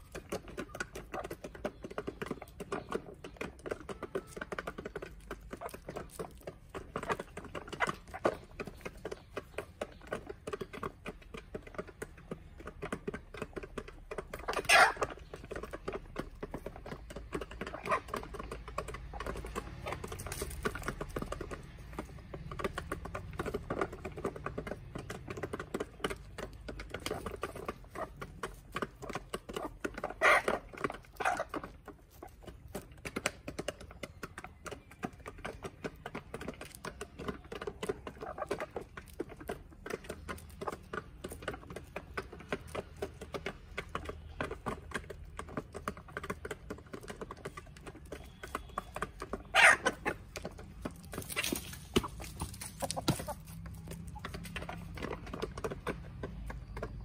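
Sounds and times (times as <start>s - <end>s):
chickens pecking beak taps: 0.0s - 57.0s.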